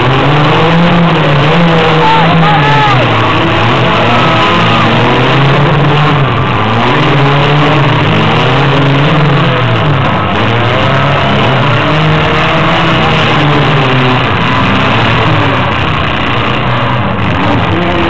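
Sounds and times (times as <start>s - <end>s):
small car engines revving: 0.0s - 18.0s.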